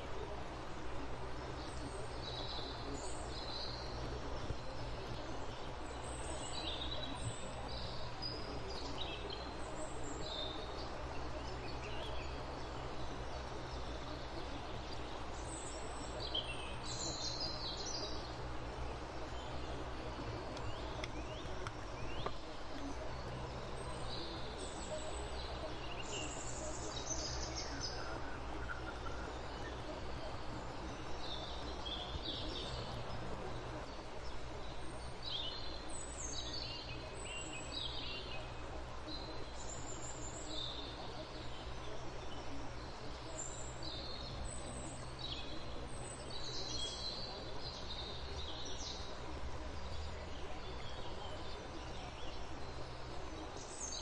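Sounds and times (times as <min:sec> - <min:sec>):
birds chirping: 0:00.0 - 0:54.0
steady low hum: 0:00.0 - 0:54.0.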